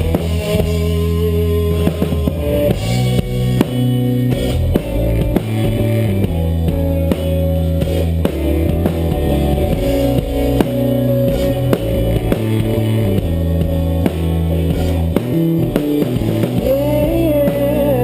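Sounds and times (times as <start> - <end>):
drum kit hits: 0.0 - 16.9
bass guitar: 0.0 - 18.0
guitars: 0.0 - 18.0.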